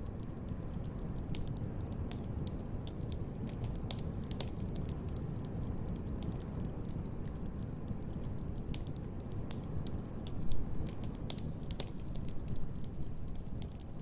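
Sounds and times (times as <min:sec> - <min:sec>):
fire low rumble: 0:00.0 - 0:14.0
wood fire crackling and popping: 0:00.0 - 0:14.0.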